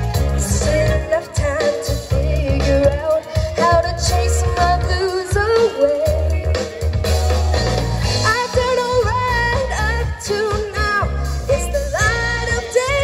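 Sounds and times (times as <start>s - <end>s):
woman singing into microphone: 0.0s - 7.0s, 8.2s - 13.0s
drum kit: 0.0s - 13.0s
electric guitar: 0.0s - 13.0s.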